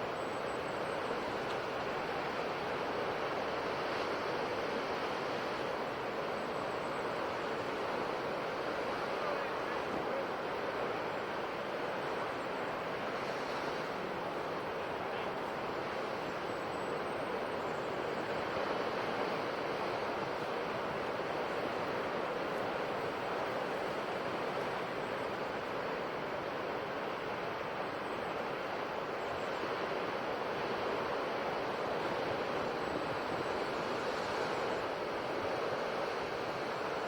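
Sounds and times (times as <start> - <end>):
ocean surf washing on shore: 0.0 - 37.0.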